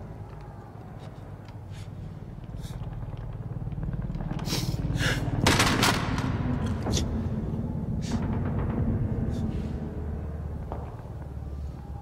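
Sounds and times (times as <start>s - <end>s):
low rumble: 1.6s - 12.0s.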